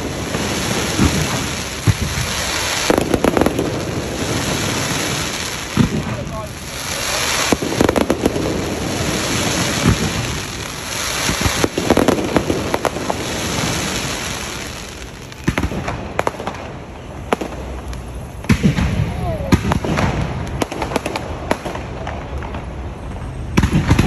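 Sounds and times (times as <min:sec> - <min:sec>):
fireworks crackling: 0:00.0 - 0:24.0
fireworks sharp bangs: 0:00.0 - 0:24.0.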